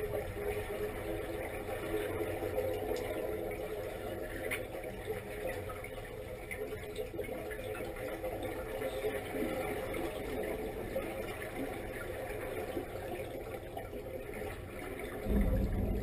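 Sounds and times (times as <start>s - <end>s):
underwater mechanical hum: 0.0s - 16.0s.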